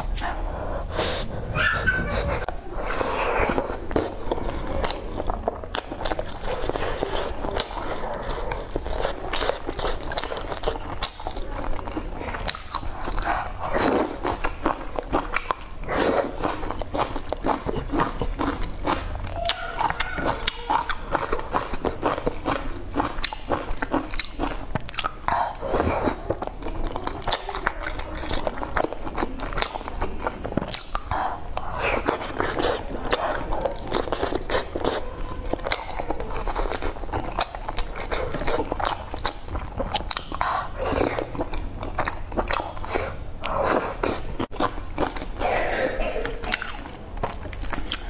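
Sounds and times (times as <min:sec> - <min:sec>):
chewing soft food: 0:00.0 - 0:48.0.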